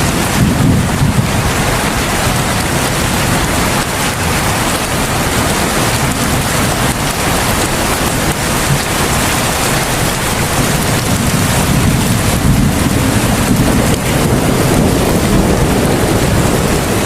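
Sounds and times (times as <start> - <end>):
heavy rain falling: 0.0 - 17.0
low rumble: 0.0 - 17.0.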